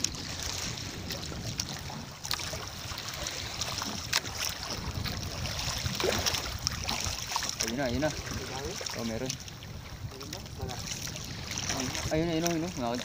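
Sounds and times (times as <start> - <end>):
water lapping against boat: 0.0 - 13.0
wind buffeting microphone: 0.0 - 13.0.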